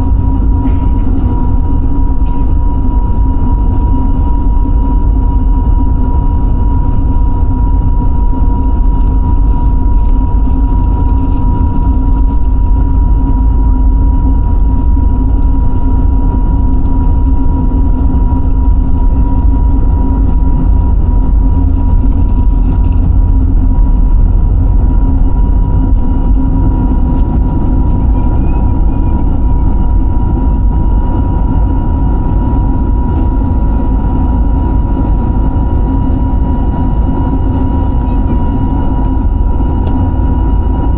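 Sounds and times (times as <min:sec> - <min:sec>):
airliner engine rumble: 0:00.0 - 0:40.9
constant engine whine: 0:00.0 - 0:40.9.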